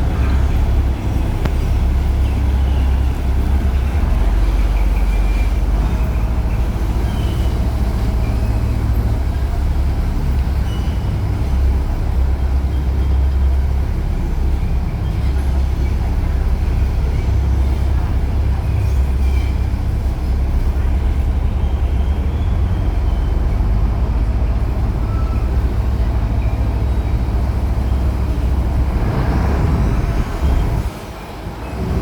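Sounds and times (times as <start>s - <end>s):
boat engine rumbling: 0.0s - 32.0s.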